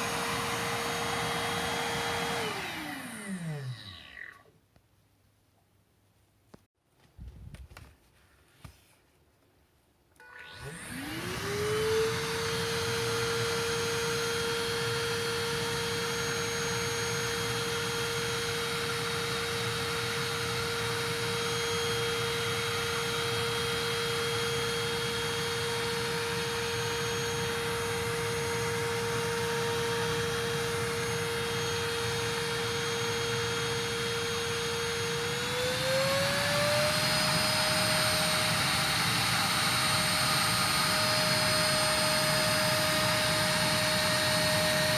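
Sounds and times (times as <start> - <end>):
vacuum cleaner motor whine: 0.0 - 4.5, 10.2 - 44.9.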